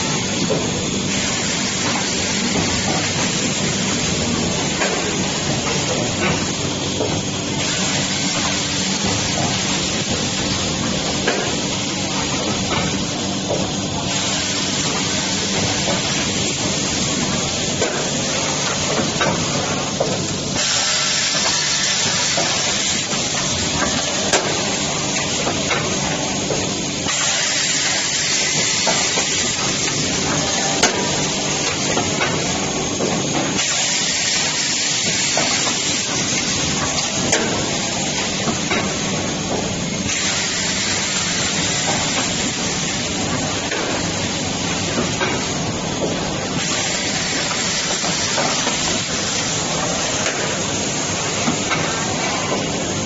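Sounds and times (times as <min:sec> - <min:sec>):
machine humming and hissing: 0:00.0 - 0:53.0.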